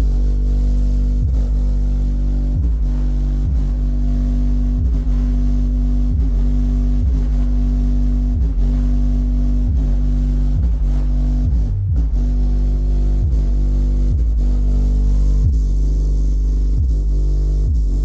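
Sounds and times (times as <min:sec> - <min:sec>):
bass-heavy dance music: 0:00.0 - 0:18.0.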